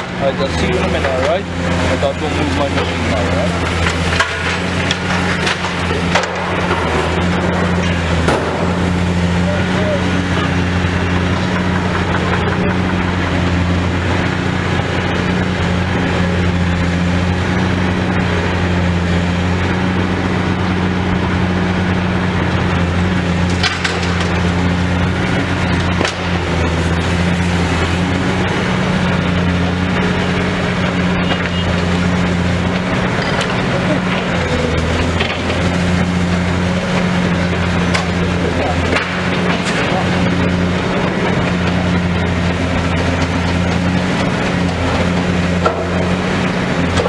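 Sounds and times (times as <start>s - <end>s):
building material crunching: 0.0s - 47.0s
excavator diesel engine humming: 0.0s - 47.0s
sharp cracks: 0.0s - 47.0s.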